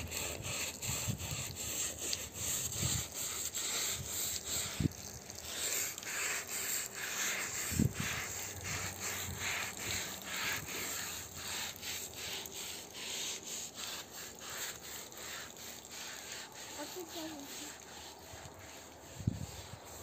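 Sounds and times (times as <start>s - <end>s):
brush scrubbing wet carpet: 0.0s - 20.0s.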